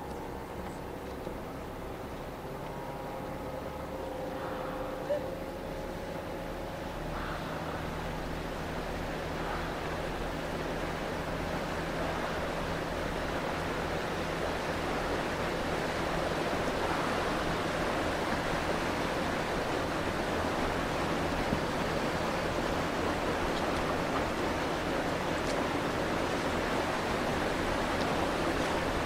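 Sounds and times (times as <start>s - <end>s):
low steady hum: 0.0s - 29.0s
open water: 0.0s - 29.0s
wind: 0.0s - 29.0s.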